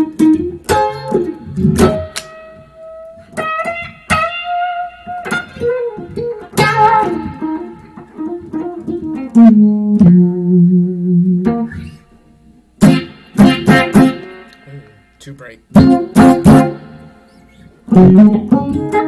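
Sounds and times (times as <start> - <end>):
electric guitar blues lead: 0.0 - 19.0.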